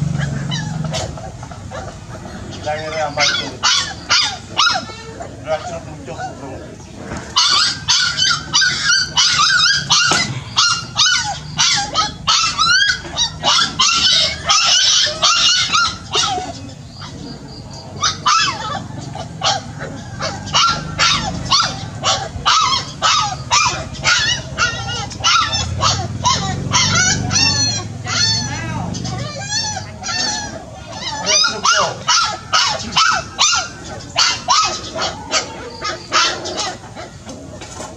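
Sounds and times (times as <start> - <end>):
puppy yipping and barking: 0.0 - 6.4, 7.3 - 37.4.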